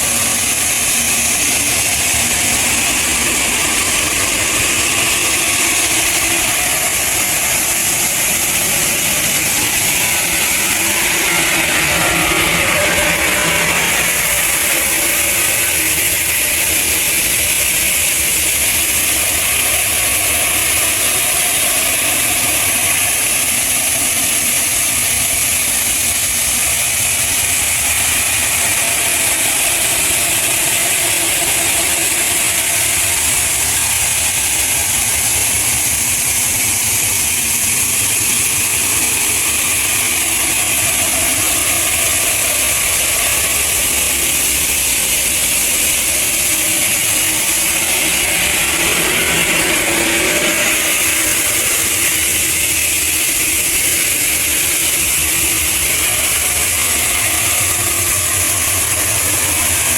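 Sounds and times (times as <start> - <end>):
heavy machinery running: 0.0 - 59.9
strong high hiss: 0.0 - 59.9.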